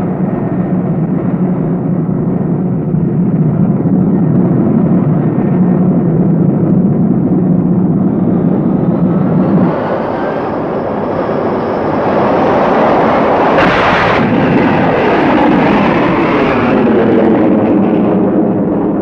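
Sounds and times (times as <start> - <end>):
jet fighter engines at afterburner: 0.0 - 19.0.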